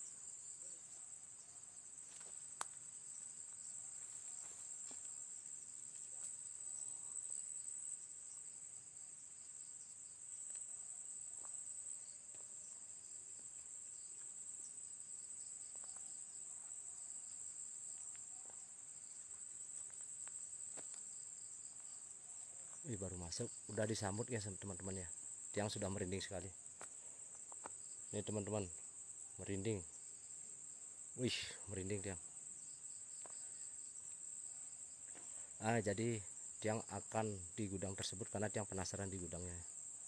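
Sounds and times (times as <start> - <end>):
crickets chirring: 0.0 - 40.0.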